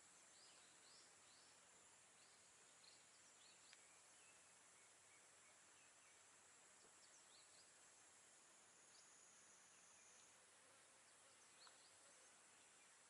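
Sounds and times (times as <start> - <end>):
faint high-pitched hiss: 0.0 - 13.0.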